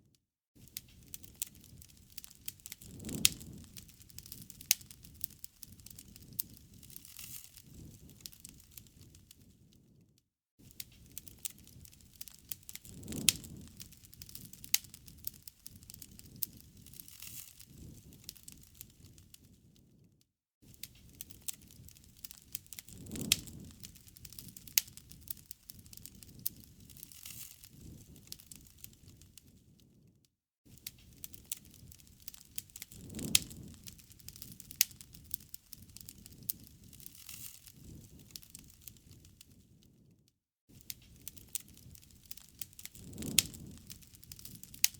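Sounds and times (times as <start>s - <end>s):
rush of flames: 0.6s - 9.6s, 10.6s - 19.9s, 20.6s - 29.6s, 30.7s - 39.7s, 40.7s - 44.9s
campfire crackling and popping: 0.6s - 10.0s, 10.6s - 20.0s, 20.6s - 30.0s, 30.7s - 40.1s, 40.7s - 44.9s.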